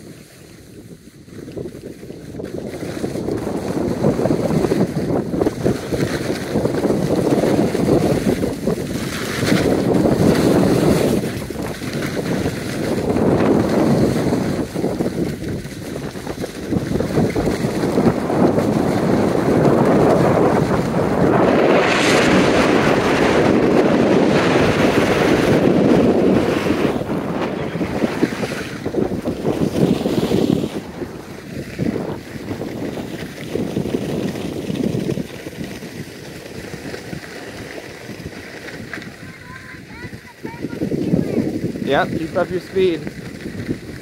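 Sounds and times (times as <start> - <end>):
ski edges scraping packed snow: 0.0 - 44.0
wind buffeting microphone: 0.0 - 44.0.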